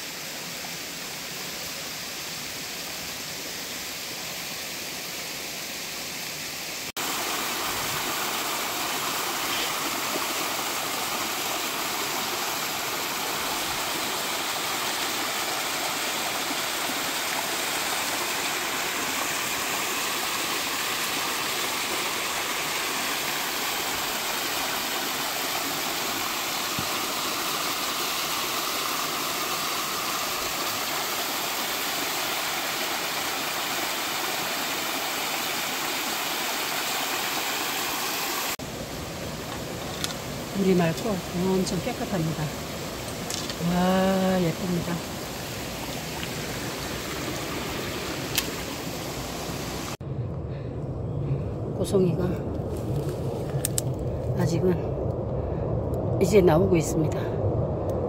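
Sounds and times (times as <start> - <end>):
stream cascading over rocks: 0.0 - 50.0.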